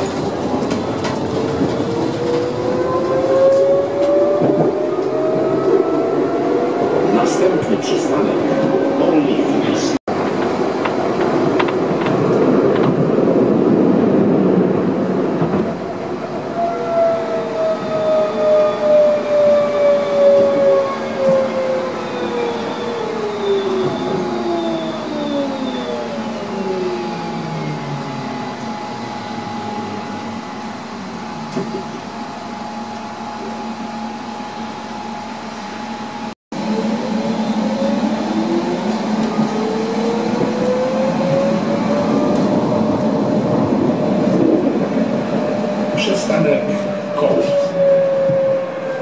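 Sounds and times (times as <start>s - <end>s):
tram motors whining: 0.0s - 49.0s
wheels rumbling on rails: 0.0s - 49.0s.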